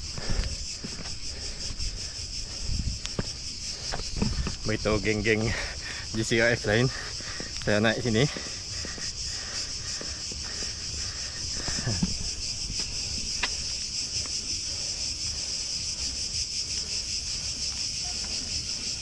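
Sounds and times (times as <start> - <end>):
cicada chorus buzzing: 0.0 - 19.0.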